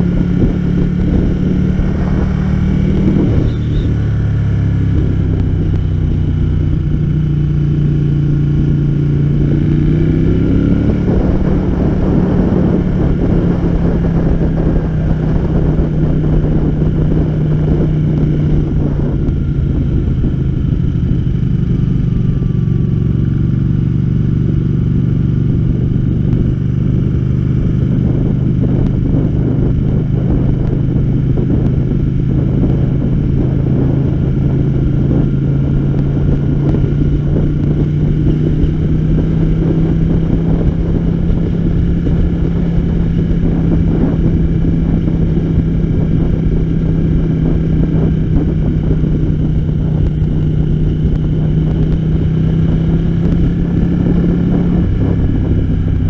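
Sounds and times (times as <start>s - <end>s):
motorcycle engine accelerating: 0.0s - 56.0s
wind and road noise: 0.0s - 56.0s.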